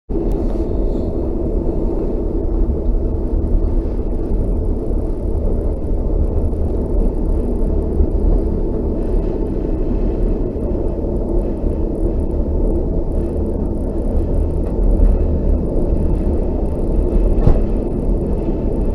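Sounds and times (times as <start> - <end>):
passenger train rumbling: 0.1 - 18.9.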